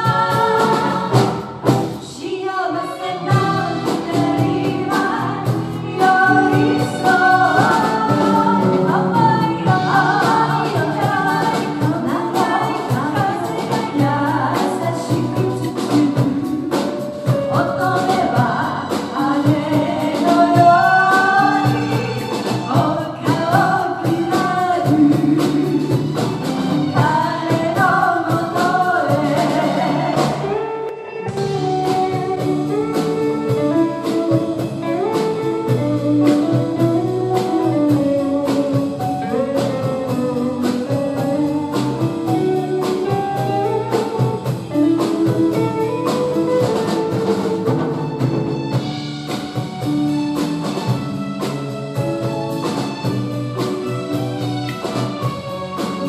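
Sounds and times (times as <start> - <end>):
women singing: 0.0 - 47.9
live pop band playing: 0.0 - 56.0.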